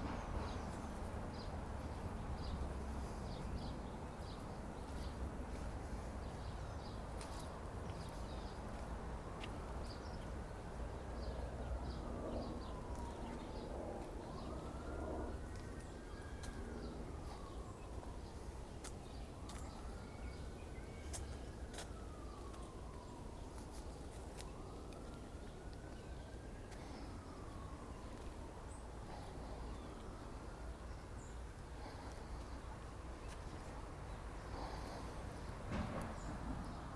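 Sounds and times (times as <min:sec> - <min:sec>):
faint emergency siren wailing: 0:00.0 - 0:36.9.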